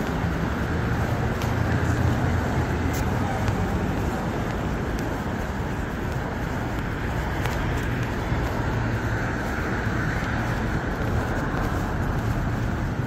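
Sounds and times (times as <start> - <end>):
passing cars hum: 0.0 - 13.0.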